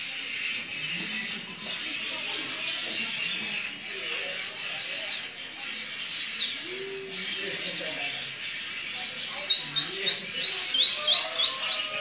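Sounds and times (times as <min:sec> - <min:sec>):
bird chirping: 0:00.0 - 0:12.0
faint voices: 0:00.0 - 0:12.0.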